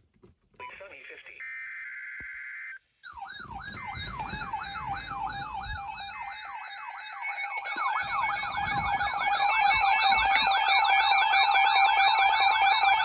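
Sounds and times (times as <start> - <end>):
electronic yelp siren: 1.4 - 13.0.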